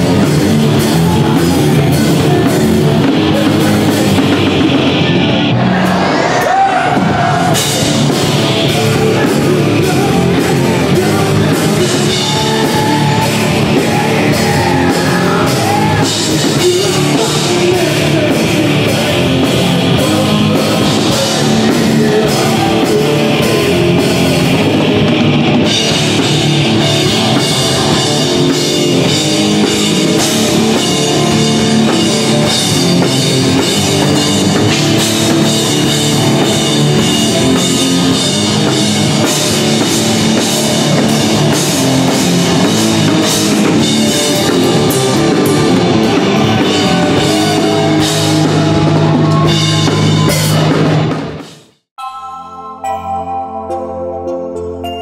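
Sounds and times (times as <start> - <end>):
electric guitars: 0.0 - 51.4
bass guitar: 0.0 - 51.6
drum kit with cymbal strokes: 5.9 - 51.6.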